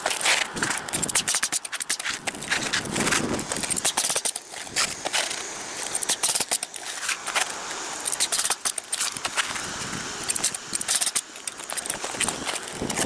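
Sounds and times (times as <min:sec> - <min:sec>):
roofing nailer clicks and knocks: 0:00.0 - 0:07.5, 0:08.1 - 0:09.6, 0:10.2 - 0:13.0
shingles rustling: 0:00.0 - 0:13.0.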